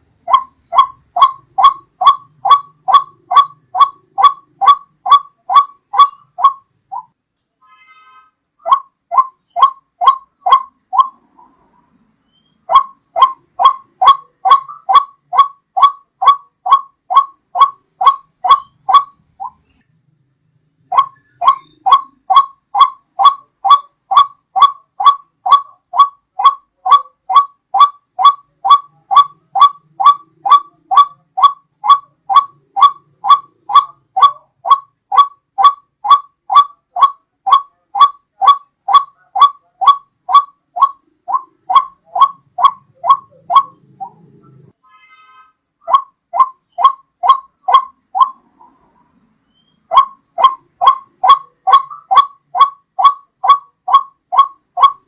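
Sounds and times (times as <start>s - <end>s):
waterhen call: 0.0s - 7.1s, 8.6s - 11.7s, 12.3s - 19.8s, 20.9s - 44.7s, 45.8s - 48.9s, 49.5s - 55.0s.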